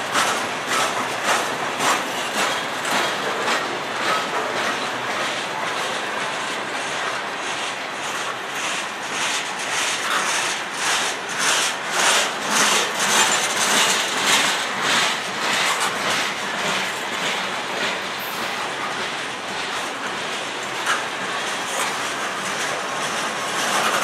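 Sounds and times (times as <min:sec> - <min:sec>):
freight train wheels rumbling: 0:00.0 - 0:24.0
wheels clacking over rail joints: 0:00.0 - 0:24.0.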